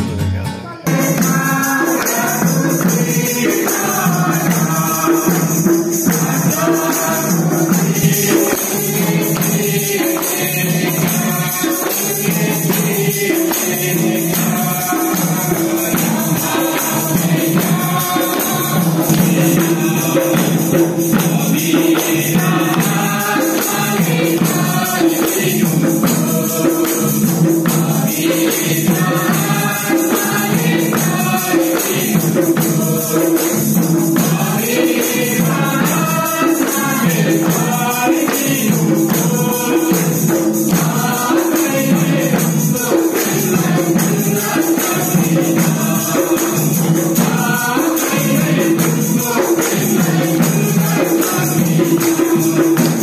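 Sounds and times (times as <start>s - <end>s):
congregation singing: 0.0s - 53.0s
tambourine: 0.0s - 53.0s.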